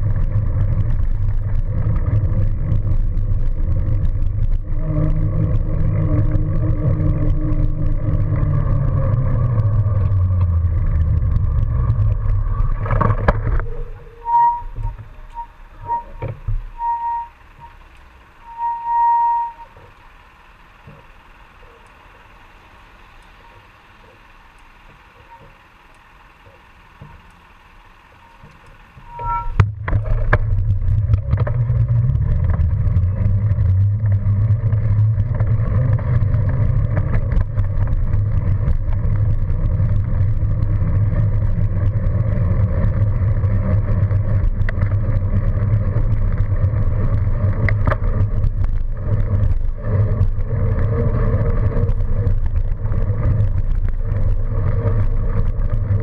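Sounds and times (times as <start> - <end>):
street background: 0.0 - 56.0
wind and road noise rumble: 0.0 - 56.0.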